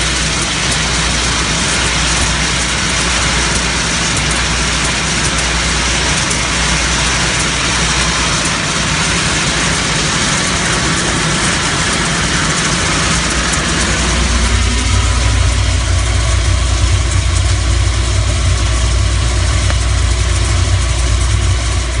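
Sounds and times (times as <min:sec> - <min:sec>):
sorting machinery running: 0:00.0 - 0:22.0.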